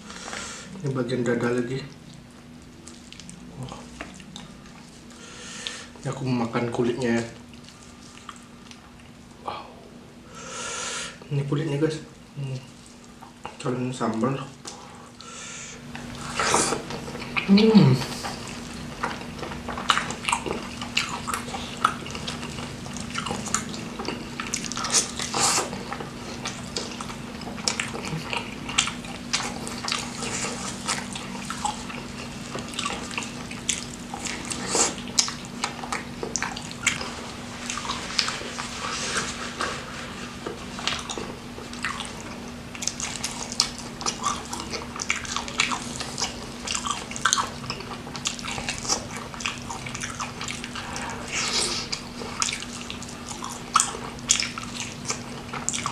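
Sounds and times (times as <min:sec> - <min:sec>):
steady low hum: 0:00.0 - 0:55.9
crackling bites and wet chewing: 0:01.8 - 0:06.2, 0:06.9 - 0:09.4, 0:15.9 - 0:55.9.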